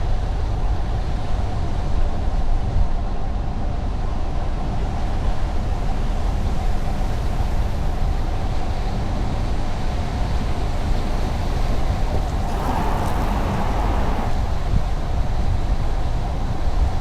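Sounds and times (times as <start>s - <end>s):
car road and tyre noise: 0.1s - 17.0s.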